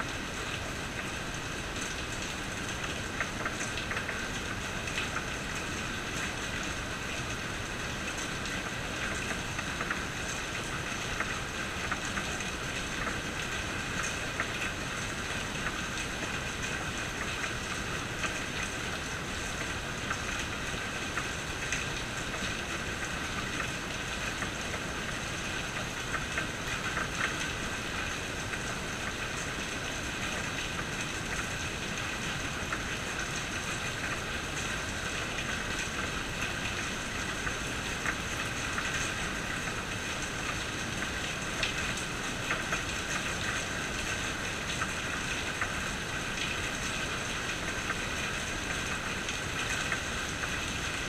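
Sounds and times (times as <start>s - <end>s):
raindrops ticking on surfaces: 0.0s - 51.0s
steady rainfall: 0.0s - 51.0s.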